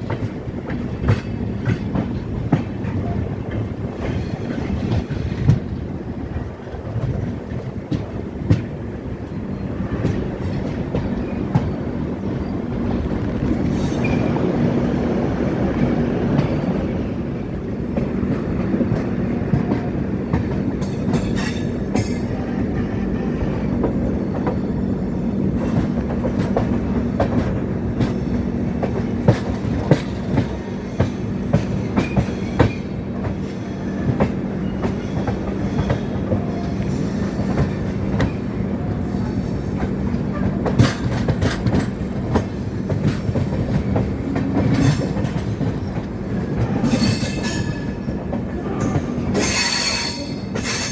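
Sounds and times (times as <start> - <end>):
train rumble and hum: 0.0 - 50.9.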